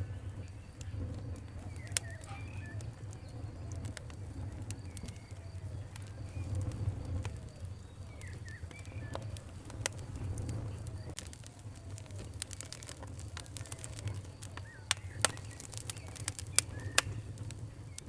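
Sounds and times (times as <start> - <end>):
birds calling: 0.0 - 18.0
wood fire crackling: 0.0 - 18.0.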